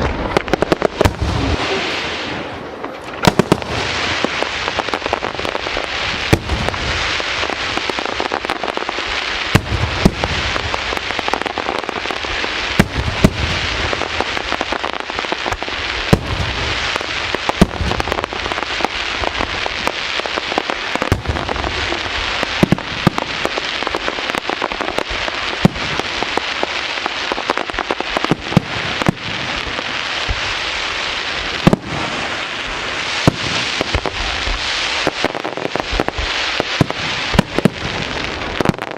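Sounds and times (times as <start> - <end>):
fireworks crackling: 0.0 - 38.9
loud fireworks bangs: 0.0 - 38.9.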